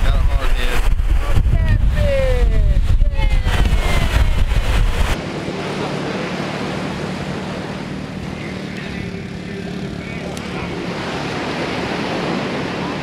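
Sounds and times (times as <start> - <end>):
surf breaking on sandy beach: 0.0 - 13.0
wind buffeting microphone: 0.0 - 13.0.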